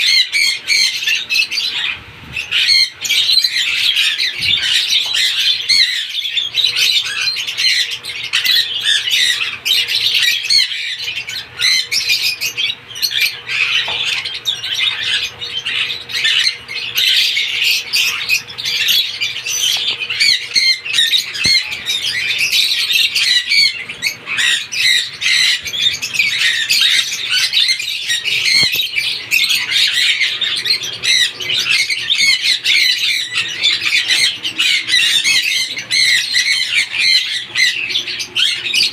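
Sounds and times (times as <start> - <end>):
lovebirds chattering and squawking: 0.0 - 38.9.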